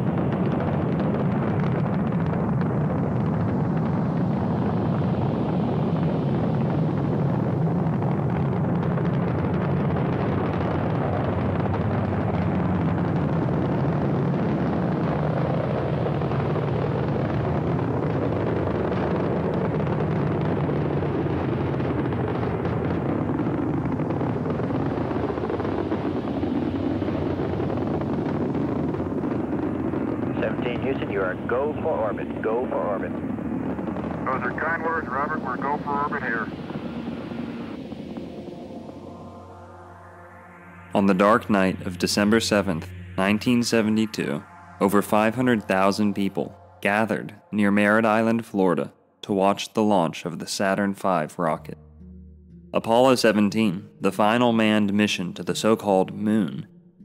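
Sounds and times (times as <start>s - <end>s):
deep rocket engine rumble: 0.0s - 57.0s.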